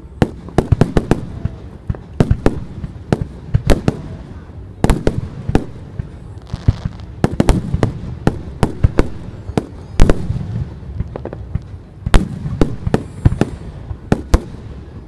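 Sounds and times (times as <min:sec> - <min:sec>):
fireworks bangs and pops: 0:00.0 - 0:15.0
fireworks crackling: 0:00.0 - 0:15.0.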